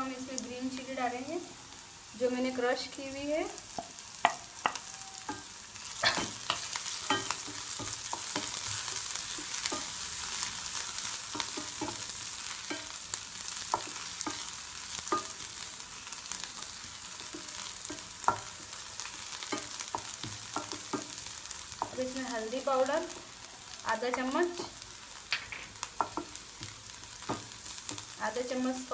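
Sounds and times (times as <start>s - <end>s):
onions sizzling in a frying pan: 0.0s - 28.9s.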